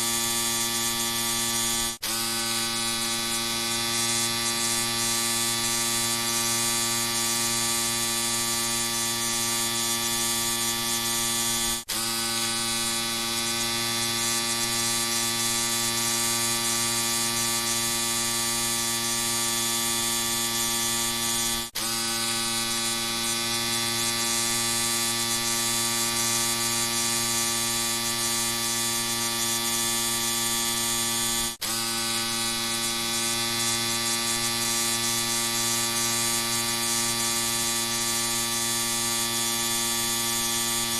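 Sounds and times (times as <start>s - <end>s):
electric shaver buzzing: 0.0s - 40.9s.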